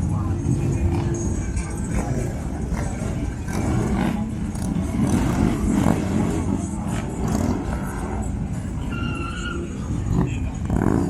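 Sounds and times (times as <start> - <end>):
crowd noise: 0.0 - 11.0
motorcycle engines rumbling: 0.0 - 11.0.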